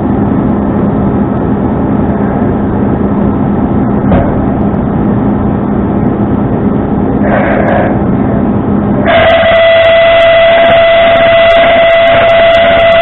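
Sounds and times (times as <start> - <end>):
high-pitched whine: 0.0 - 13.0
truck engine low hum: 0.0 - 13.0.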